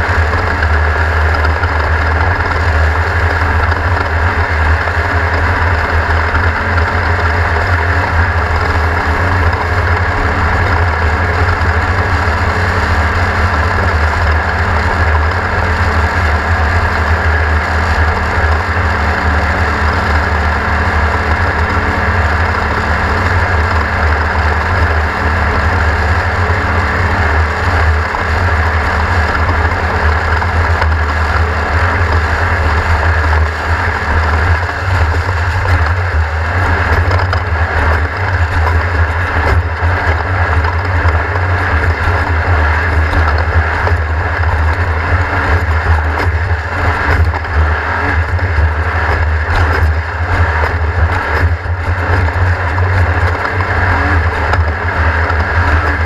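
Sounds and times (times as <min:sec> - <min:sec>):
race car engine running loudly: 0:00.0 - 0:56.0.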